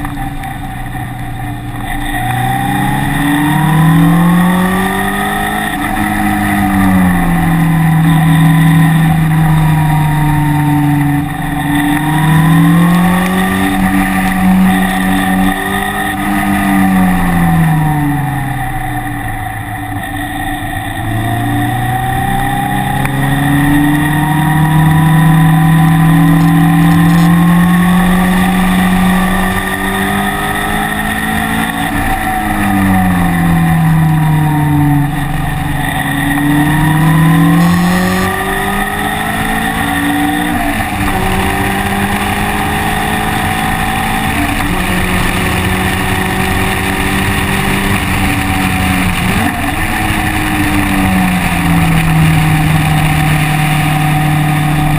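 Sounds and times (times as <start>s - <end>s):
vehicle engine accelerating: 0.0s - 54.9s.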